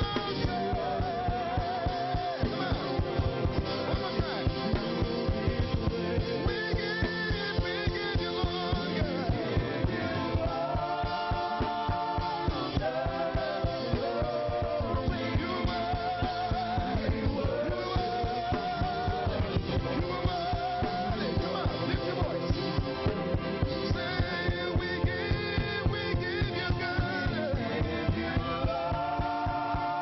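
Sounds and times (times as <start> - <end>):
drum kit beat: 0.0 - 30.0
voices singing held notes: 0.0 - 30.0.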